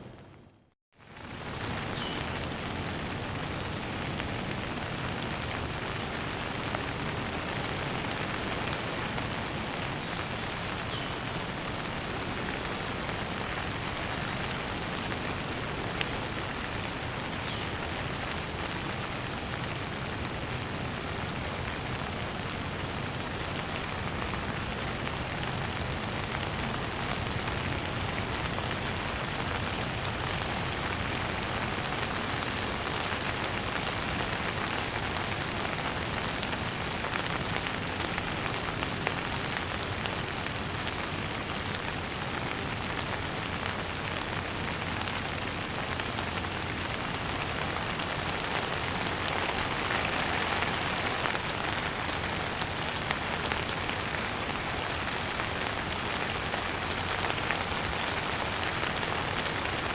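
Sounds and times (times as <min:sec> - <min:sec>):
rain pattering on surfaces: 0:01.0 - 0:59.9.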